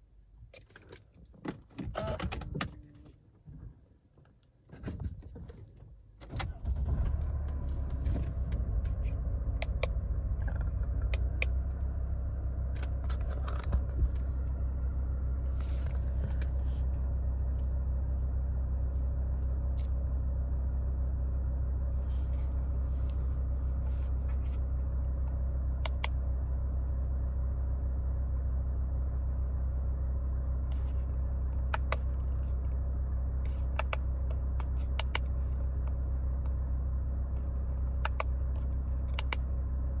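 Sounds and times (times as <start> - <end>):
car engine starting and idling: 6.1 - 40.0.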